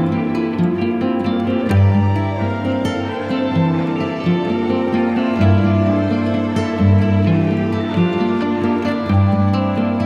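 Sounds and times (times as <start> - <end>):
soft plucked-string music: 0.0 - 10.0.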